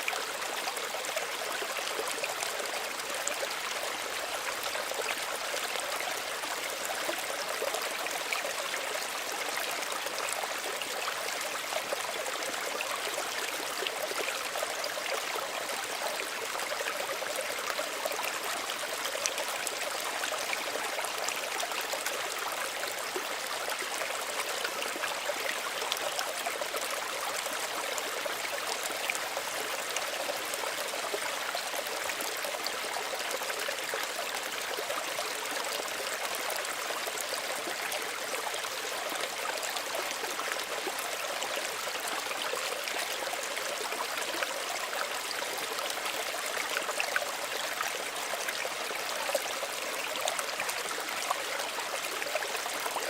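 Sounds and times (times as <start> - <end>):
stream trickling over stones: 0.0 - 53.0.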